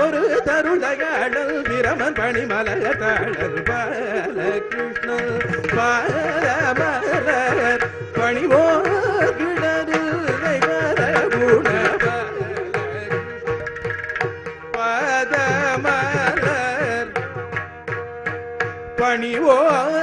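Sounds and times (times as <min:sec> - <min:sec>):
man singing ornamented phrases: 0:00.0 - 0:13.4, 0:14.8 - 0:17.2, 0:19.0 - 0:20.0.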